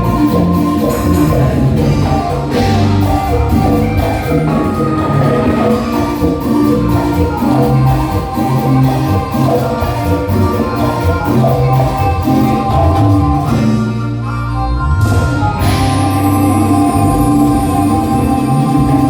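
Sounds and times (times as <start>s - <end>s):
live band dance music: 0.0s - 19.0s.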